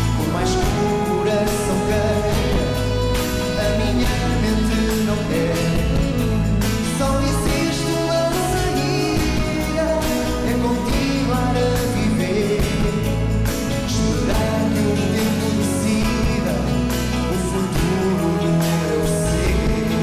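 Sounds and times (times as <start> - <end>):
bass guitar: 0.0 - 20.0
drums: 0.0 - 20.0
keyboards: 0.0 - 20.0
man singing into microphone: 0.0 - 20.0.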